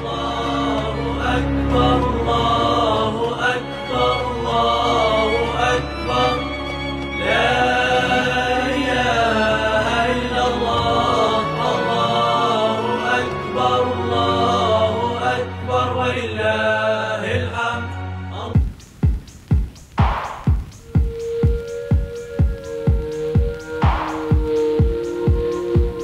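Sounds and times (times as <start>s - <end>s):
chanted vocal melody: 0.0s - 18.6s, 20.8s - 26.0s.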